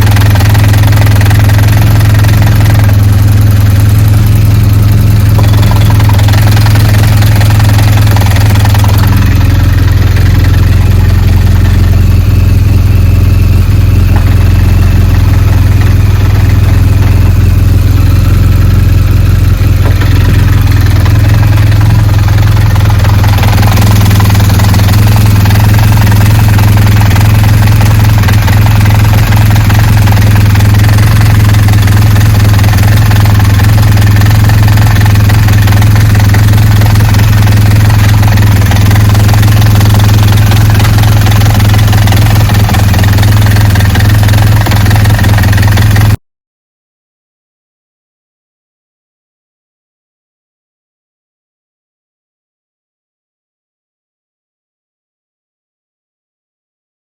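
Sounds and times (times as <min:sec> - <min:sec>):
motorcycle idling: 0:00.0 - 0:46.2.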